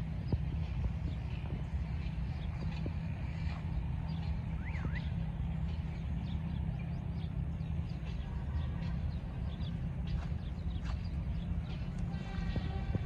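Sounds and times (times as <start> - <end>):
small birds chirping: 0.0 - 12.8
distant diesel locomotive rumble: 0.0 - 13.0.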